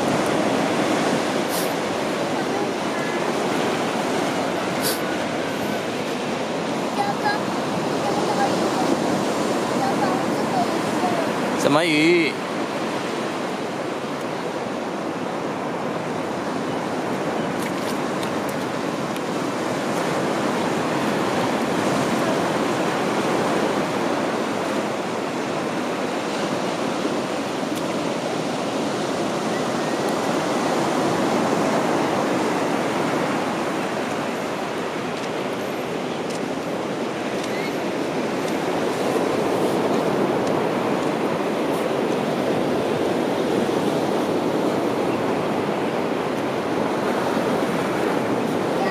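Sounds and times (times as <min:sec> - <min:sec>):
ocean surf on beach: 0:00.0 - 0:48.9.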